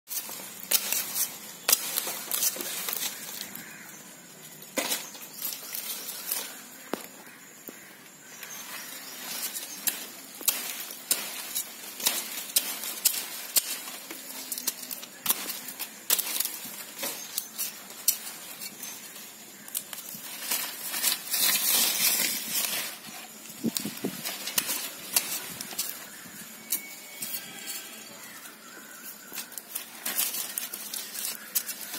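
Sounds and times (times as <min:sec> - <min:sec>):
dry leaves crackling: 0:00.1 - 0:31.9
soil crumbling: 0:00.1 - 0:31.9.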